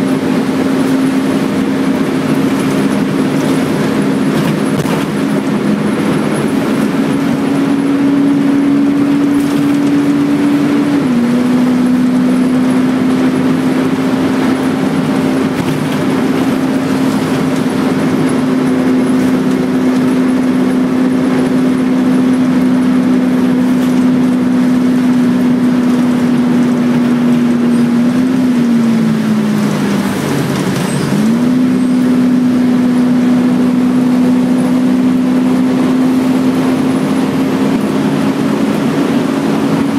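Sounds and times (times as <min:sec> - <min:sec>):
bus engine drone with whine: 0:00.0 - 0:39.9.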